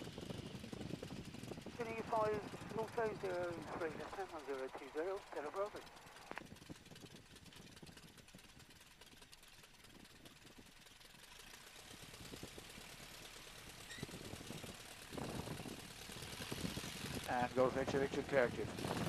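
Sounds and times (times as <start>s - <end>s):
aircraft engine idling: 0.0s - 19.0s.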